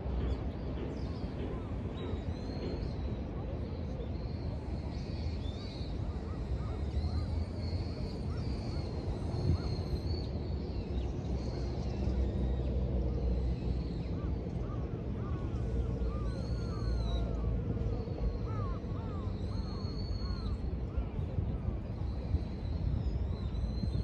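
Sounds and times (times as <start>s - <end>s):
distant city traffic rumble: 0.0s - 24.0s.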